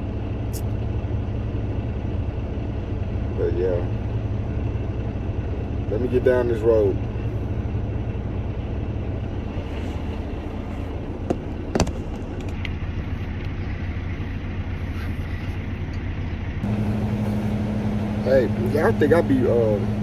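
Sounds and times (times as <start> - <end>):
road noise: 0.0 - 20.0
truck diesel engine running: 0.0 - 20.0.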